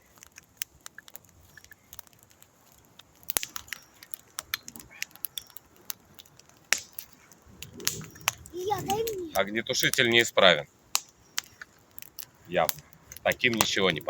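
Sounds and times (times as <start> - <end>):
log fire crackling and snapping: 0.0 - 14.0.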